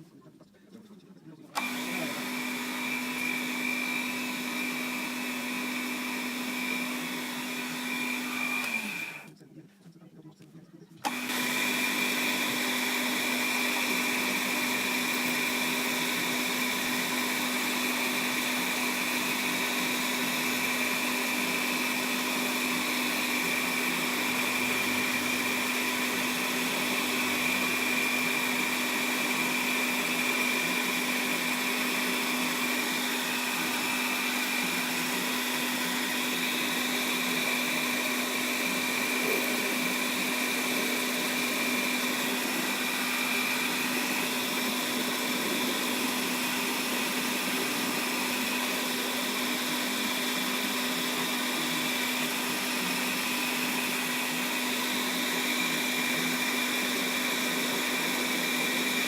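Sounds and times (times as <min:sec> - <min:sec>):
lathe motor whine: 0:01.5 - 0:09.3, 0:11.0 - 0:59.0.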